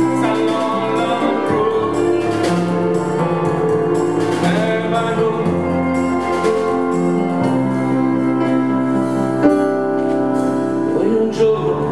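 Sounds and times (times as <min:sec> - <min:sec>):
sustained instrumental chords: 0:00.0 - 0:11.9.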